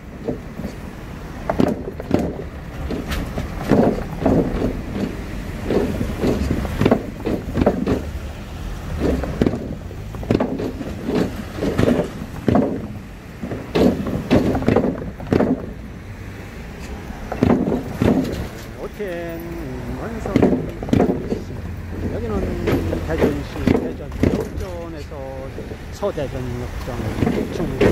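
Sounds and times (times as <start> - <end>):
wooden planks clunking under car wheels: 0.0 - 27.9.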